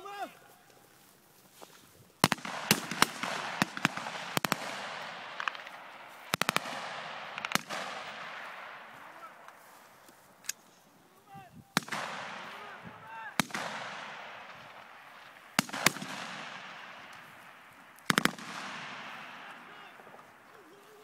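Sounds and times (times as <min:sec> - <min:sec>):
rifle shots with echo: 0:02.2 - 0:10.8, 0:11.7 - 0:21.0.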